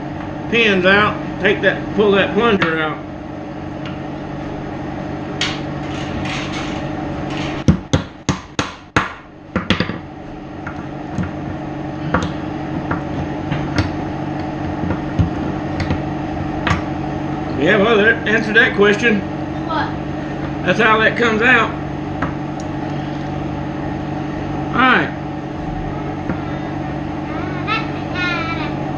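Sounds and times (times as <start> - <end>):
steady background hum: 0.0 - 28.9.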